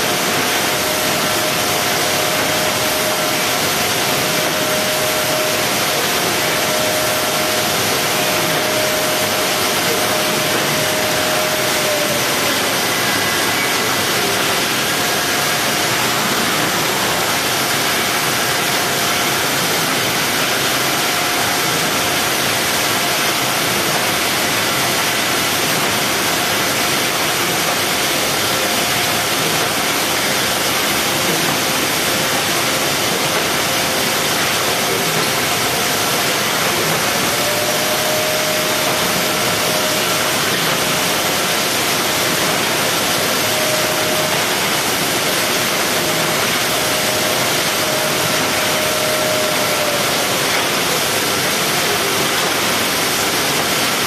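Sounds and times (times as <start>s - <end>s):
faint machine whining: 0.0s - 54.0s
machinery hiss: 0.0s - 54.0s.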